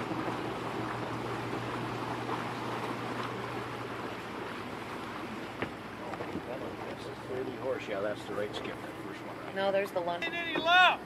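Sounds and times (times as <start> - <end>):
low steady hum: 0.0 - 11.0
open water wash: 0.0 - 11.0.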